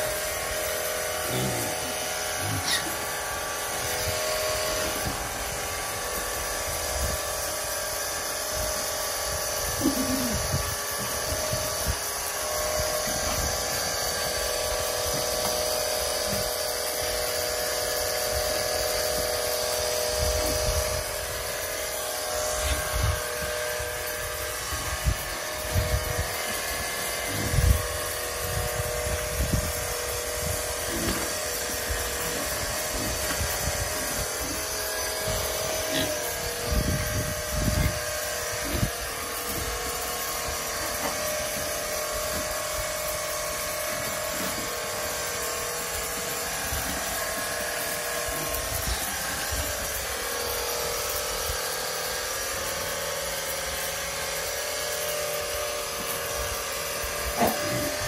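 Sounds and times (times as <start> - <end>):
small motor humming: 0.0 - 58.0.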